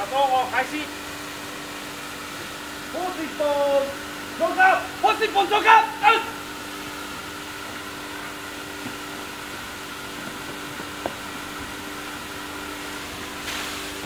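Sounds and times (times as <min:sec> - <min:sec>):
pump engine running: 0:00.0 - 0:14.0
water spraying from hose nozzle: 0:00.0 - 0:14.0.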